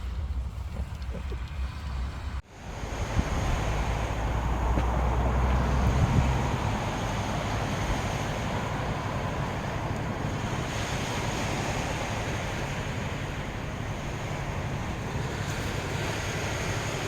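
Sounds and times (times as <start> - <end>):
sea waves washing on beach: 0.0 - 17.0
wind buffeting microphone: 0.0 - 17.0.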